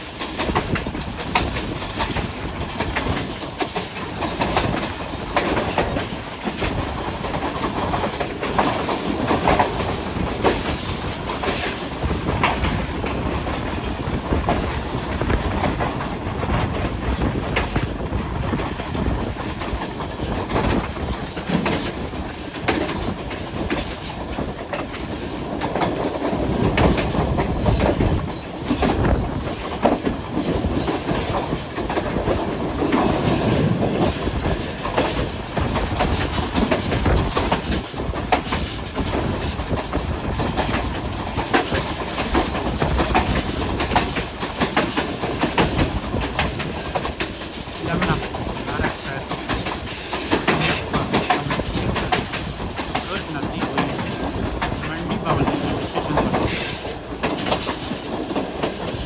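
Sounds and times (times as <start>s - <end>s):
train coaches rumbling: 0.0s - 59.0s
wheels clicking over rail joints: 0.0s - 59.0s.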